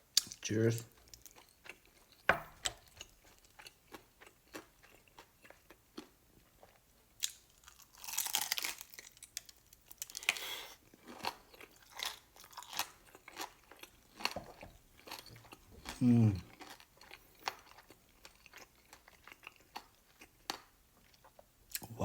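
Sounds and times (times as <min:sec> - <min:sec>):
crunching fried chicken: 0:00.1 - 0:21.4.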